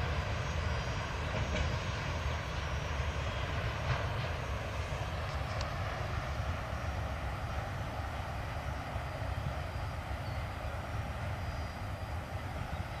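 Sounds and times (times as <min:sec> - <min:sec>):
distant freight train rumbling: 0:00.0 - 0:13.0.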